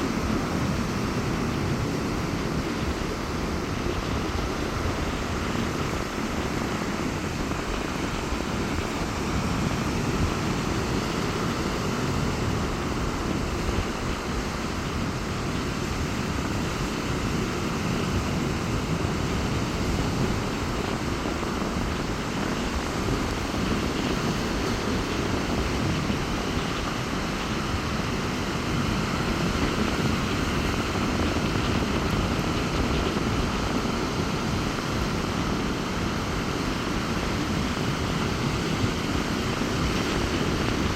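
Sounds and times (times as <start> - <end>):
sea waves breaking on beach: 0.0 - 40.9
wind rumbling on microphone: 0.0 - 40.9.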